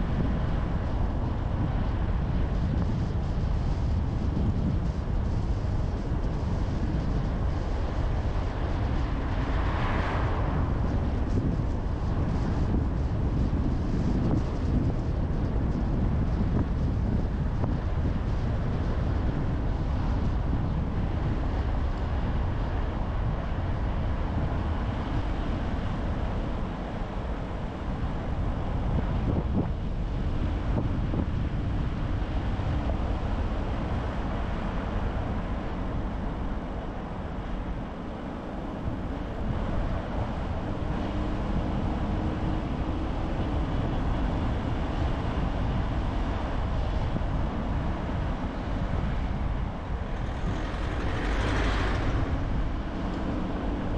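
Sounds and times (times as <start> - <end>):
car engine and tyre rumble: 0.0 - 53.9.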